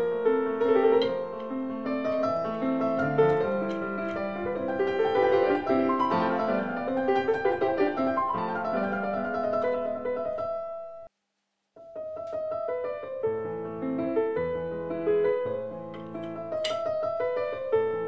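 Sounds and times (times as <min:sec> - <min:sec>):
slow piano melody: 0:00.0 - 0:11.1, 0:11.9 - 0:18.0.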